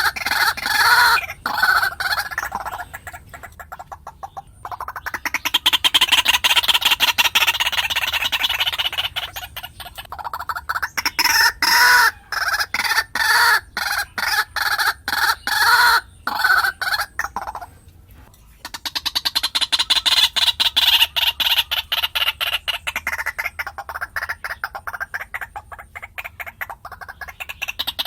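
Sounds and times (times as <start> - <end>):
waterhen harsh repeated calls: 0.0 - 17.7, 18.6 - 28.0.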